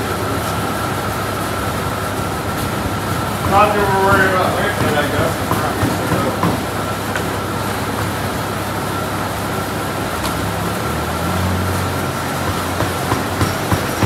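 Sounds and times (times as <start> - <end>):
machine whir with whine: 0.0 - 14.0.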